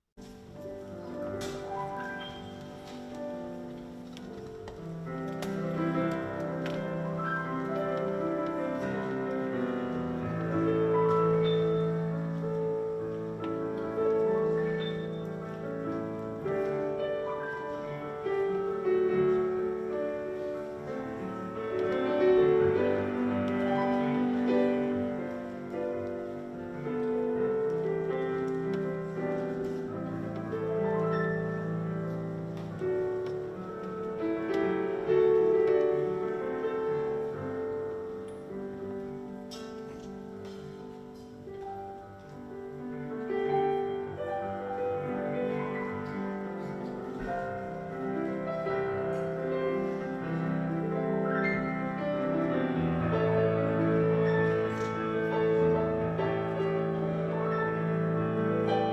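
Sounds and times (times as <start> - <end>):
slow keyboard chords: 0.2 - 58.9.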